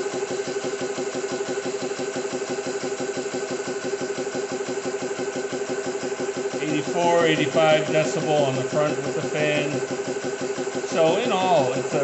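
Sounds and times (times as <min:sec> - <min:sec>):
air compressor pump pulsing: 0:00.0 - 0:12.0
cooling fans whining: 0:00.0 - 0:12.0.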